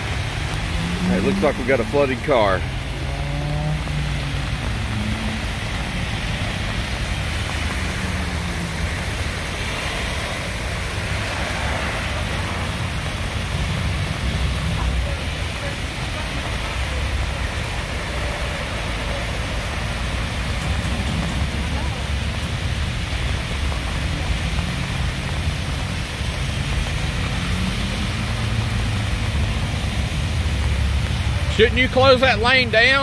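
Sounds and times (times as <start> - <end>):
rain and floodwater rushing: 0.0 - 33.0
traffic rumble: 0.0 - 33.0.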